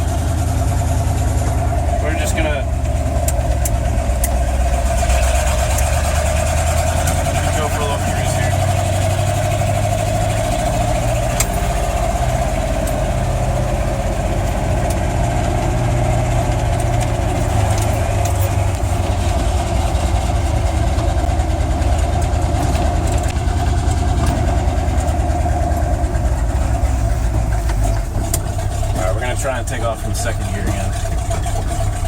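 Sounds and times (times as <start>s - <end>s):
truck engine droning: 0.0s - 32.0s.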